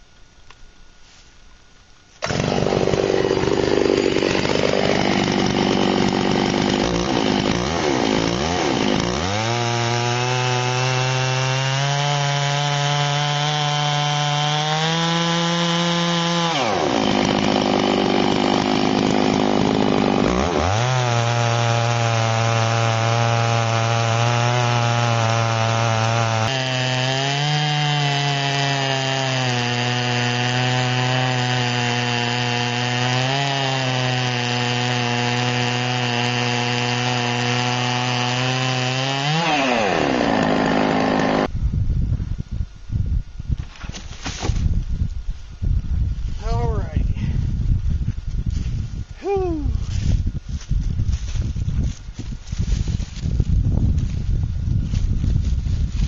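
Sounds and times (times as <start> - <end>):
chainsaw ripping a log: 2.2 - 41.5, 43.6 - 44.8, 48.5 - 56.0.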